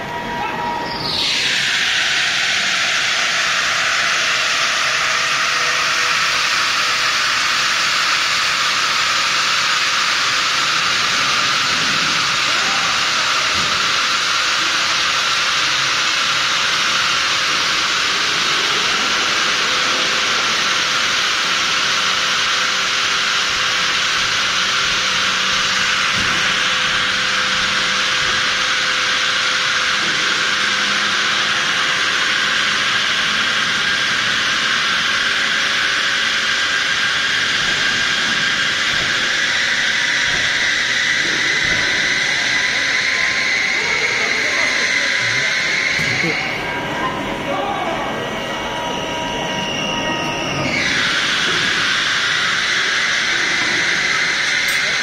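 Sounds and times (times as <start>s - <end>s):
furnace equipment hissing: 0.0s - 55.0s.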